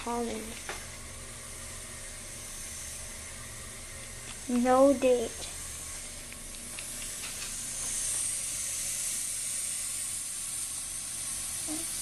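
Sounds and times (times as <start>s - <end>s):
toilet tank refilling hiss: 0.0s - 12.0s.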